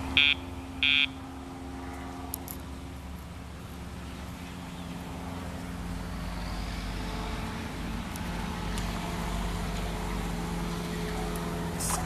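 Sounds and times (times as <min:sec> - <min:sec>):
engine hum: 0:00.0 - 0:12.0
traffic noise: 0:00.0 - 0:12.0.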